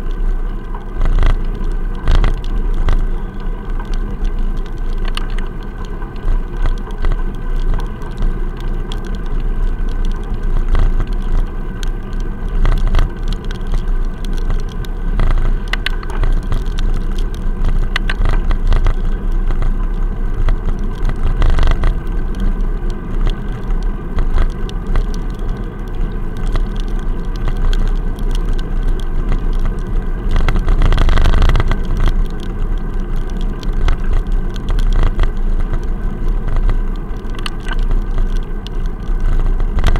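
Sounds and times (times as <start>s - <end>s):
muffled road rumble: 0.0s - 39.9s.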